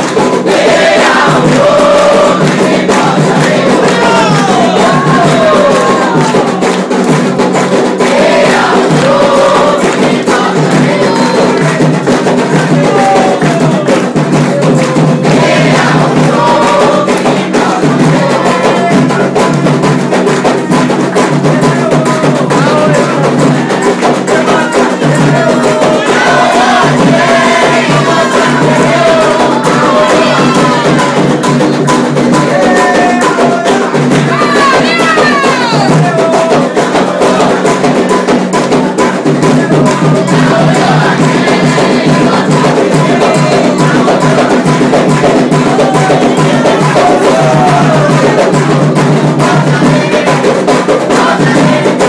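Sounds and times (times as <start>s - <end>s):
fast hand drumming: 0.0s - 52.0s
group of voices singing: 0.0s - 52.0s
percussion: 0.0s - 52.0s.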